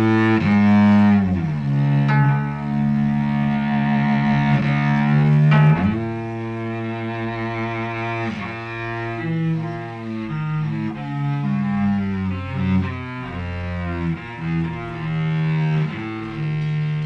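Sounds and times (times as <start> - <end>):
bowed cello: 0.0 - 17.0.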